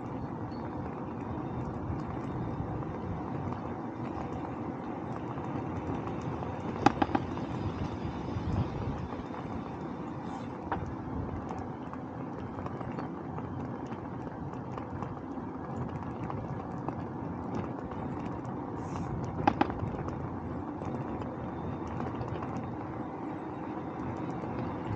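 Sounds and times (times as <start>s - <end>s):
road rumble: 0.0s - 24.9s
wind: 0.0s - 24.9s.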